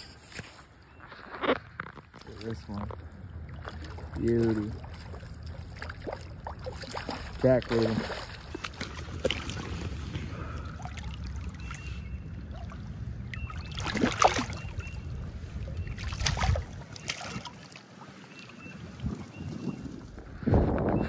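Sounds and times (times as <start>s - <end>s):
river water splashing: 2.1s - 20.0s.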